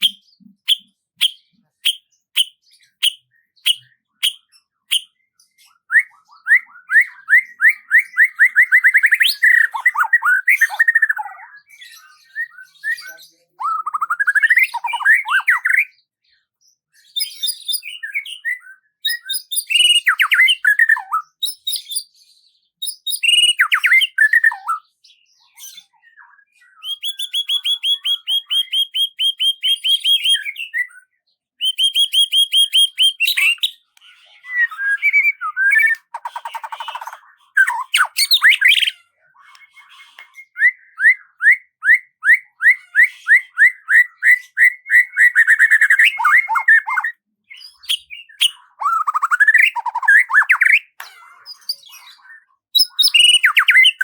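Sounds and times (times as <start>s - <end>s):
bird trill: 0.0s - 16.1s, 17.0s - 22.2s, 22.8s - 54.0s
songbirds singing: 0.0s - 54.0s.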